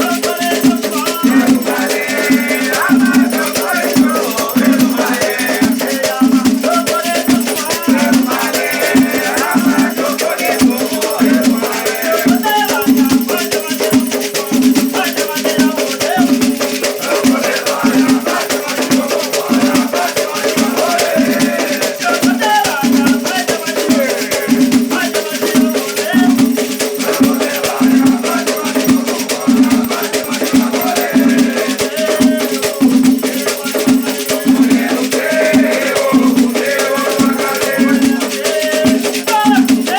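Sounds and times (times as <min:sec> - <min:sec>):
pulsing drum beat: 0:00.0 - 0:39.9
rattles shaken: 0:00.0 - 0:39.9
voices singing: 0:00.0 - 0:39.9.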